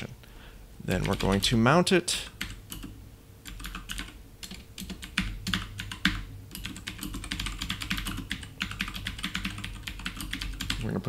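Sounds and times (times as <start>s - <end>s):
keyboard typing clicks: 0.9s - 1.4s, 2.4s - 10.8s.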